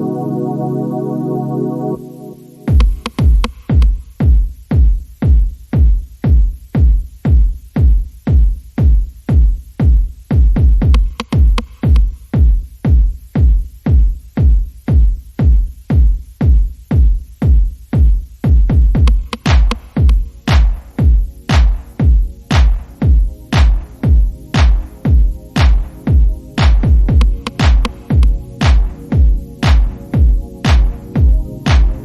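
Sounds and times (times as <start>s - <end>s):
electronic music: 0.0s - 32.0s
heavy kick-drum beat: 2.4s - 32.0s.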